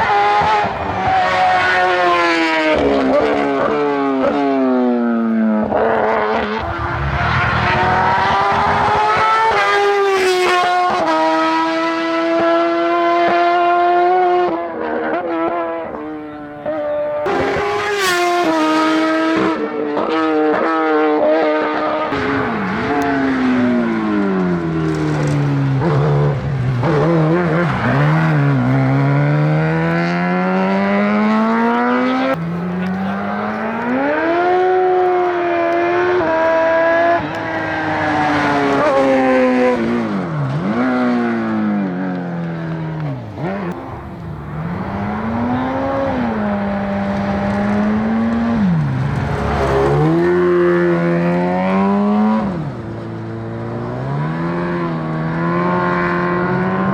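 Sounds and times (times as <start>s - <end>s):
race car engine revving through gears: 0.0s - 56.9s.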